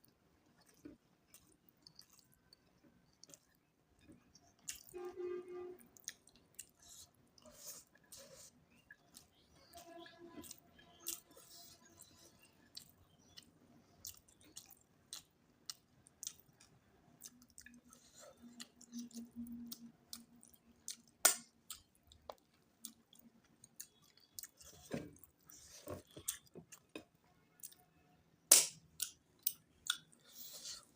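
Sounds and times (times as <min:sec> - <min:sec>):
person chewing wetly: 0:00.0 - 0:04.9, 0:06.0 - 0:27.9, 0:29.0 - 0:30.9.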